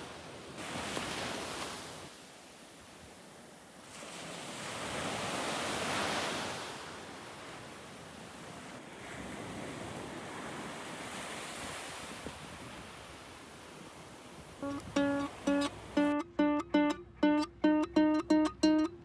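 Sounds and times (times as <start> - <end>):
sea waves washing onto beach: 0.0 - 16.1.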